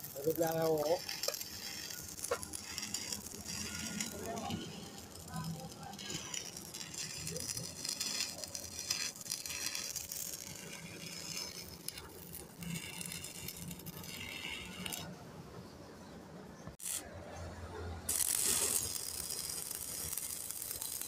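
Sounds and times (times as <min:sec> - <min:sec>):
arc welding crackling: 0:00.0 - 0:15.2, 0:16.7 - 0:21.0.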